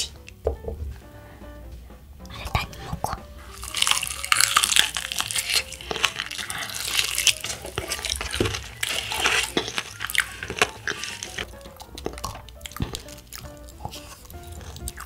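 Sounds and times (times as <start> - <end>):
soft background music: 0.0 - 15.0
chewing crispy fried chicken: 2.5 - 15.0.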